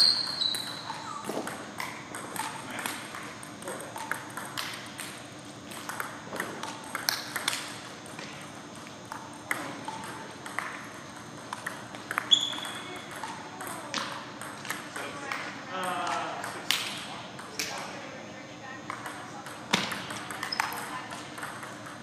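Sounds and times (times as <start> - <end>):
table tennis ball clicking: 0.5 - 15.5, 18.9 - 22.0.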